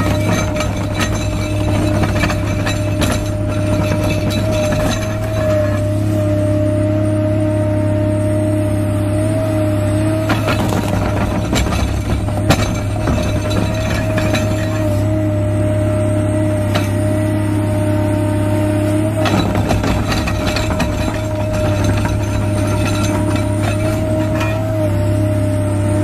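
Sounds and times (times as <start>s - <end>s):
excavator engine humming and whining: 0.0s - 26.0s.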